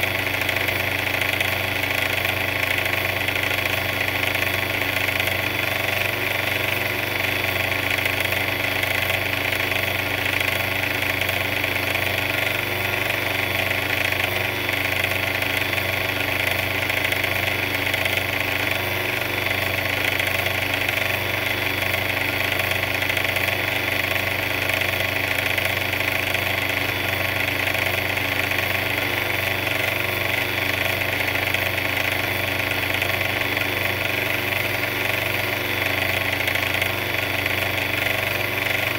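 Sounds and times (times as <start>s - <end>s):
mixer engine idling: 0.0s - 38.9s.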